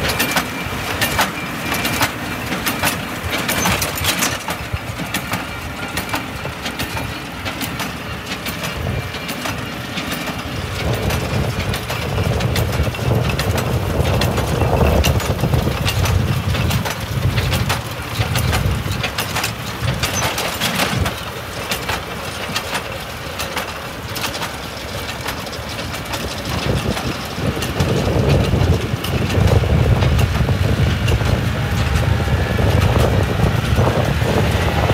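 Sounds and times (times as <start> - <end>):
tractor engine drone: 0.0 - 34.9.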